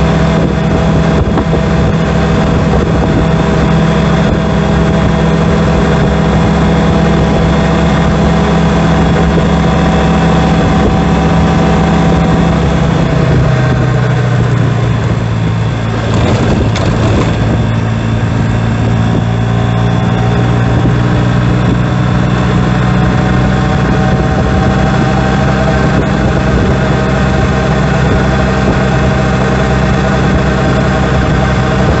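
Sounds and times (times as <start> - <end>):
scooter drivetrain drone: 0.0 - 32.0.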